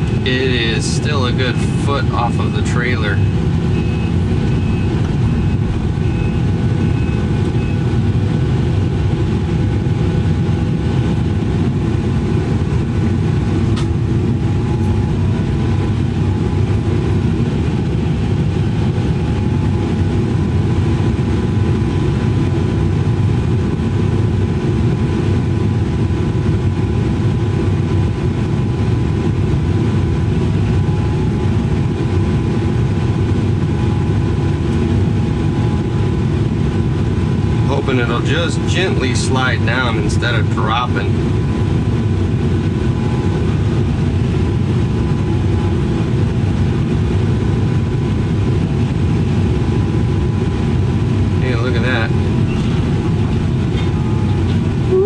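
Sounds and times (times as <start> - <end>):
diesel engine rumbling: 0.0 - 55.0
faint steady whine: 0.0 - 55.0.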